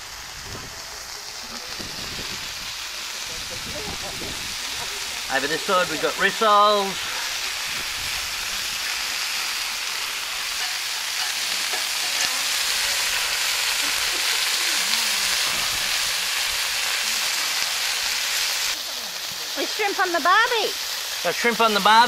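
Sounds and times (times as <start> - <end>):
meat sizzling on a hot plate: 0.0 - 22.0.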